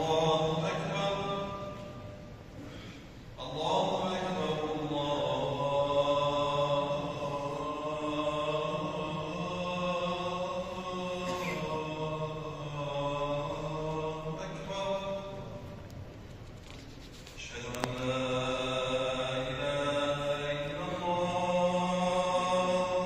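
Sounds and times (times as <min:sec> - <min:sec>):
man chanting prayer: 0:00.0 - 0:02.3, 0:03.4 - 0:15.8, 0:17.4 - 0:23.0.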